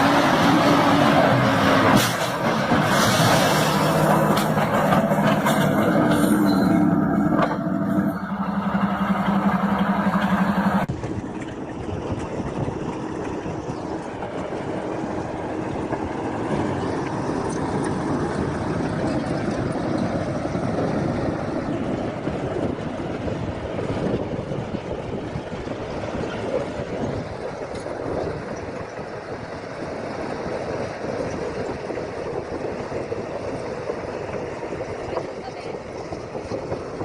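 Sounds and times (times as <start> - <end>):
heavy vehicle engine droning: 0.0 - 37.0
rumbling machine noise: 0.0 - 37.0.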